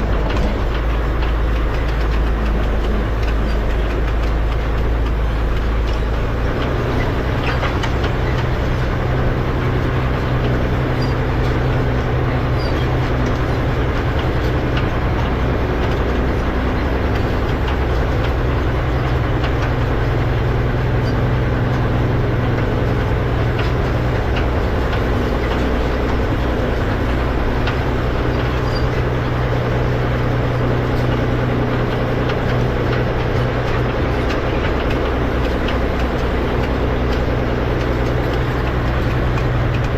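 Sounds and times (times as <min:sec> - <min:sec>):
hay rake clicks and rattles: 0:00.0 - 0:39.9
tractor engine running: 0:00.0 - 0:39.9.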